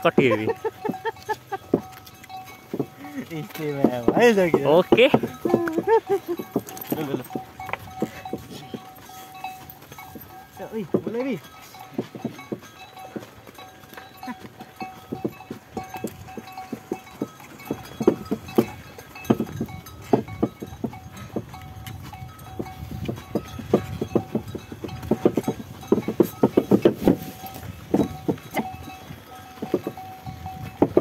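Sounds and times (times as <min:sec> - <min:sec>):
hooves and cart clattering: 0:00.0 - 0:31.0.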